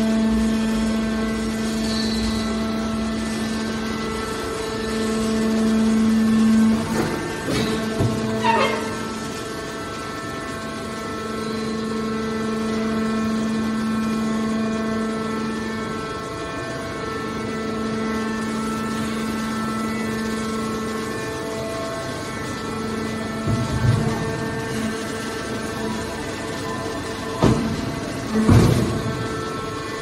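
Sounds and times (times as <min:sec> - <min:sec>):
baler power unit humming: 0:00.0 - 0:30.0.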